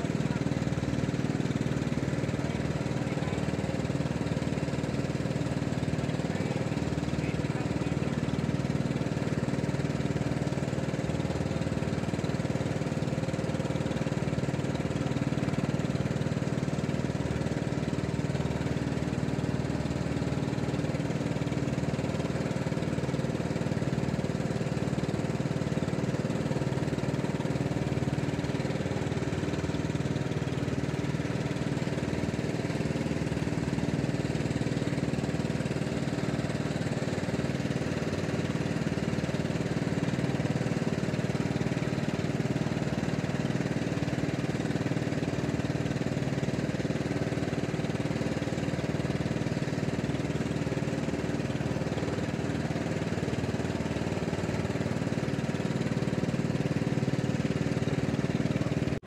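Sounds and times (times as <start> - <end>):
small engine humming: 0.0 - 59.0.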